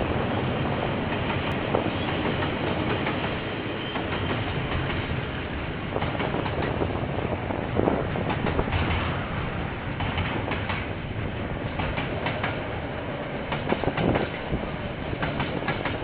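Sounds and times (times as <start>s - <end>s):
train wagons rolling: 0.0s - 16.0s
wheels clacking over rail joints: 0.9s - 16.0s.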